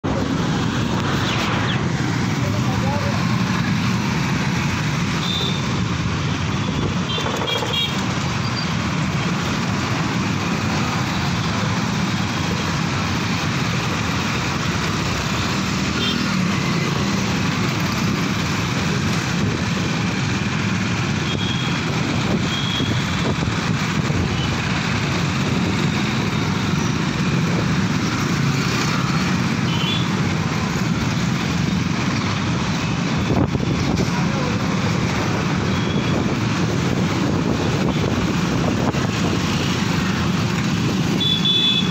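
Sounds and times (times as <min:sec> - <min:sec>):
road traffic engines humming: 0:00.0 - 0:41.9.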